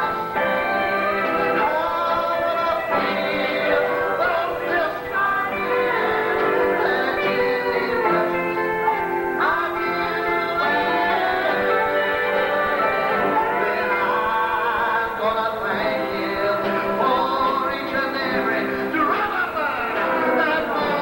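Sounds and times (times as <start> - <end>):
gospel singing: 0.0 - 21.0
instrumental accompaniment: 0.0 - 21.0.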